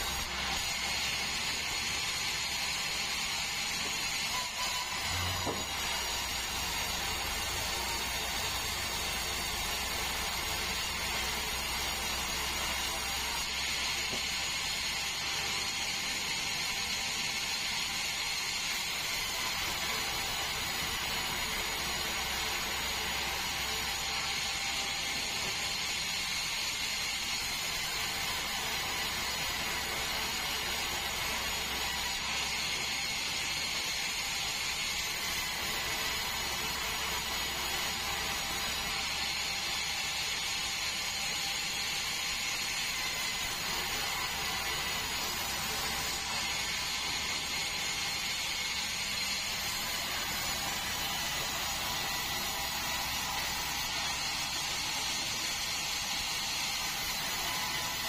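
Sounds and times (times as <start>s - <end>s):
bandsaw cutting log: 0.0s - 58.0s.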